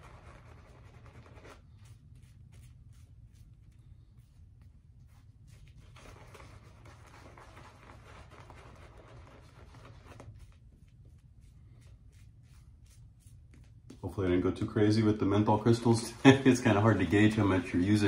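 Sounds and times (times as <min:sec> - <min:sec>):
shaving brush swishing lather: 0:00.0 - 0:14.1, 0:15.4 - 0:18.0.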